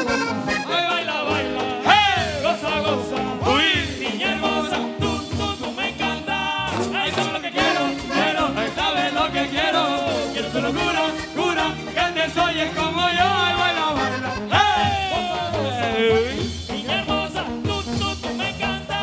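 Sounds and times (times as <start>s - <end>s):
button accordion: 0.0s - 19.0s
electric bass: 0.0s - 19.0s.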